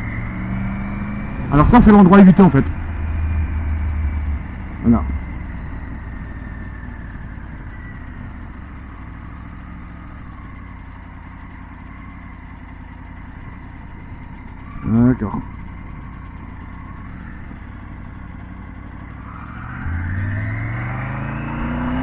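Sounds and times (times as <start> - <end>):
motorcycle engine low rumble: 0.0 - 22.0.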